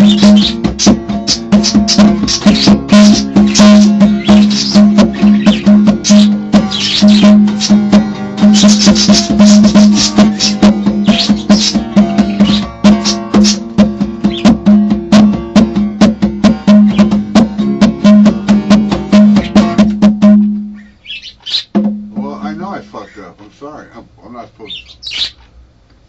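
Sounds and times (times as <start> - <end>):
hand drumming: 0.0 - 20.8, 21.7 - 22.3.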